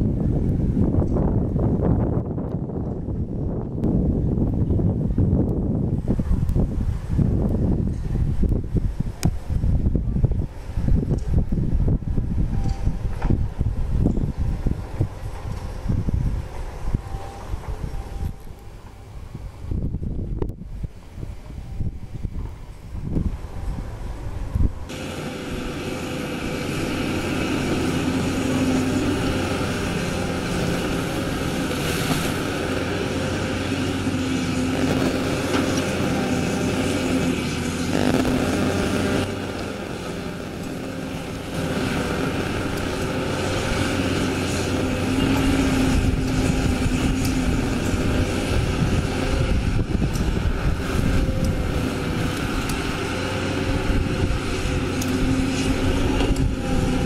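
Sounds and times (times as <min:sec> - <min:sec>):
excavator diesel engine under load: 0:00.0 - 0:57.0.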